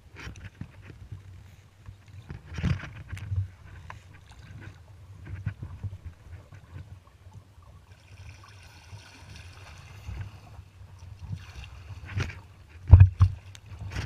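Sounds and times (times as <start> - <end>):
paddle splashing in water: 2.1 - 14.0.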